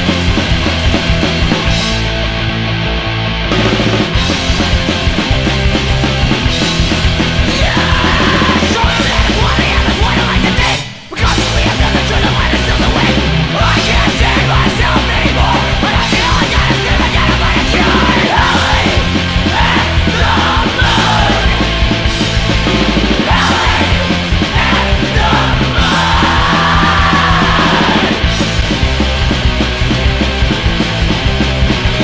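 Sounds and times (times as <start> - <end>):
bass guitar: 0.0 - 32.0
electric guitar: 0.0 - 32.0.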